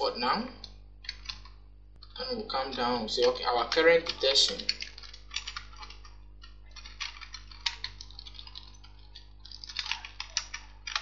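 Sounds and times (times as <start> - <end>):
steady low hum: 0.0 - 11.0
computer keyboard keys clicking: 0.6 - 11.0.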